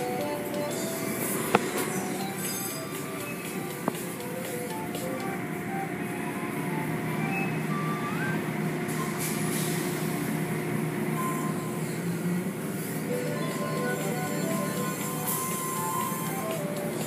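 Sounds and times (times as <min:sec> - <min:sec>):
car wash mechanical hum: 0:00.0 - 0:17.0.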